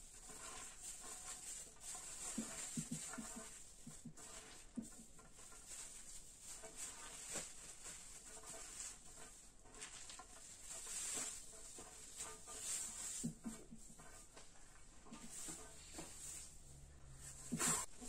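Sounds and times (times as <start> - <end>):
shredded vegetables rustling: 0.0 - 18.0.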